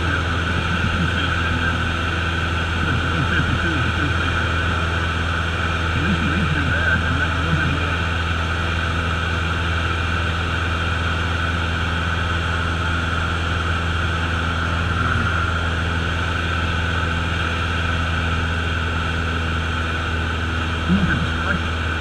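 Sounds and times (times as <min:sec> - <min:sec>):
small plane engine droning: 0:00.0 - 0:22.0.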